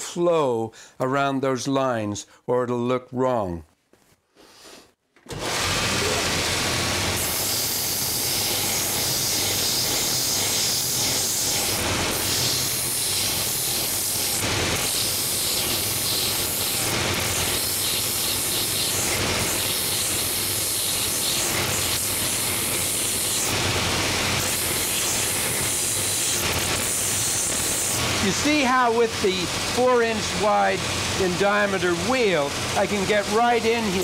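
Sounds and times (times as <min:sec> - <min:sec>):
belt sander hissing on wood: 0:05.4 - 0:34.0.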